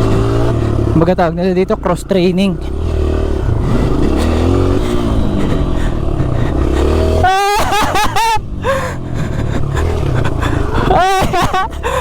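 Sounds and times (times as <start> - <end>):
dirt bike engine revving: 0.0 - 1.5, 2.3 - 12.0.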